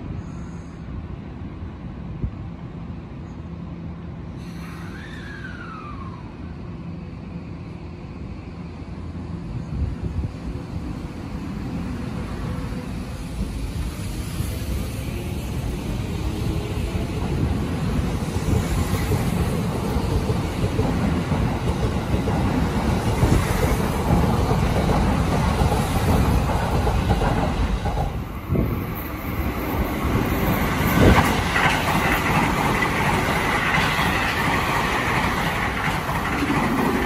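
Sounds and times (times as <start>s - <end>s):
train wheel and track noise: 0.0s - 37.0s.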